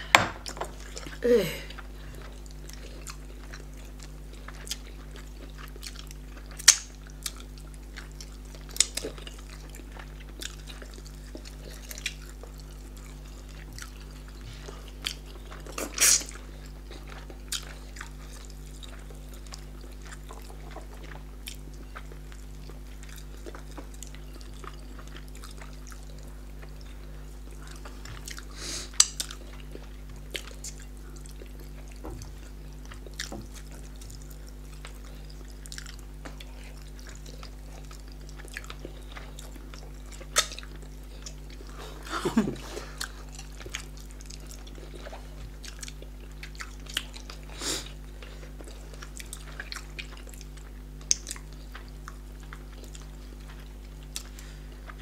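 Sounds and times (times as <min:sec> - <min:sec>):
steady low hum: 0:00.0 - 0:55.0
wet chewing and lip smacks: 0:01.8 - 0:55.0.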